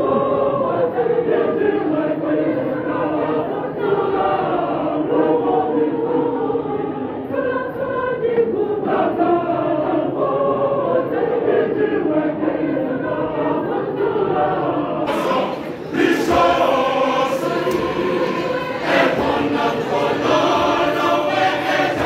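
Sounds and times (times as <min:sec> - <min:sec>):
church choir singing: 0:00.0 - 0:22.0.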